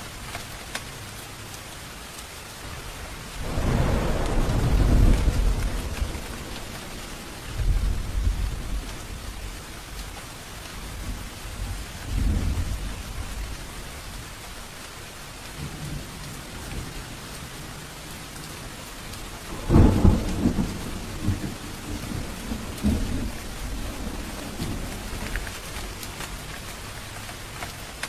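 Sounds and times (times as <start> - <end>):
steady rain: 0.0 - 28.0
thunder clap and rumble: 2.7 - 14.9, 15.5 - 28.0.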